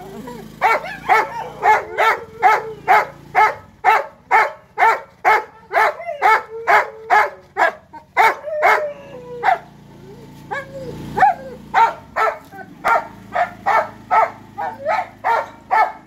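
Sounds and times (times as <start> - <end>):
dog barking: 0.6 - 8.8, 9.4 - 9.7, 10.5 - 16.0.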